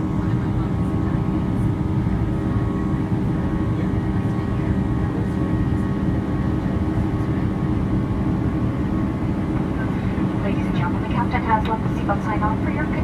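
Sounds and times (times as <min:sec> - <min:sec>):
airplane cabin drone: 0:00.0 - 0:13.0
steady engine tones: 0:00.0 - 0:13.0.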